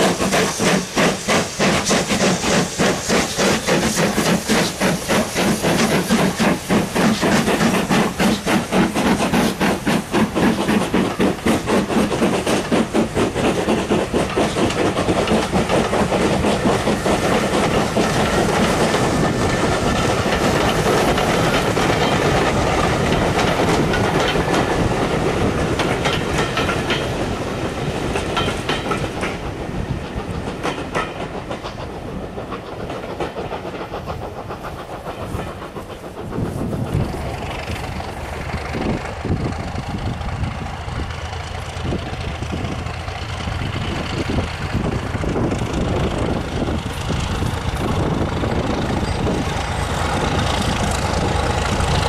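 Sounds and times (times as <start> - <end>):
train wheels clicking over rail joints: 0.0 - 52.0.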